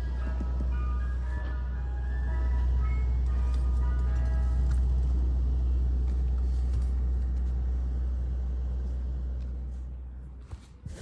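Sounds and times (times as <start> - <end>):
truck engine rumbling: 0.0 - 10.2.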